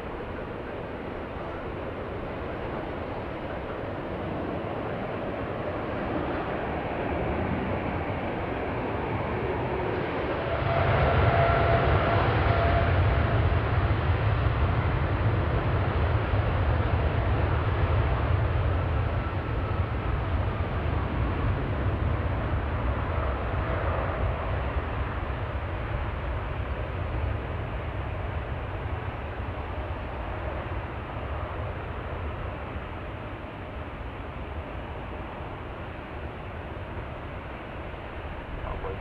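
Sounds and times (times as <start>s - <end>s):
airplane engines rumbling: 0.0s - 39.0s
faint engine whine: 0.0s - 39.0s.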